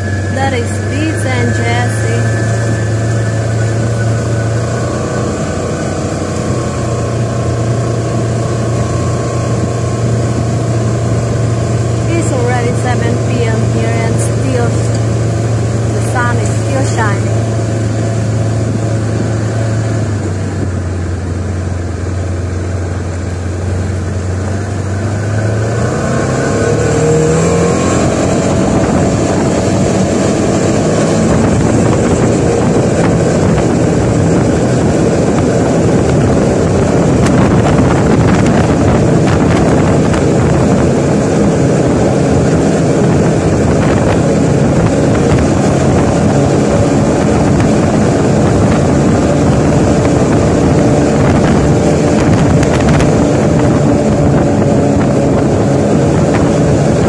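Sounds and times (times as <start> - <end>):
vehicle engine: 0.0 - 57.0
wind on microphone: 0.0 - 57.0.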